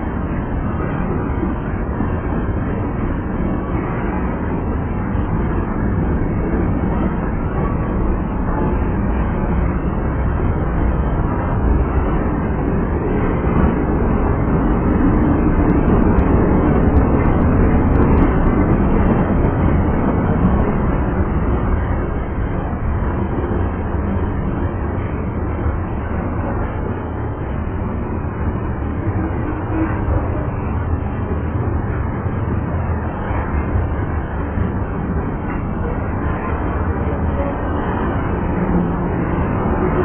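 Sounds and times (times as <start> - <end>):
freight cars rumbling past: 0.0 - 40.0.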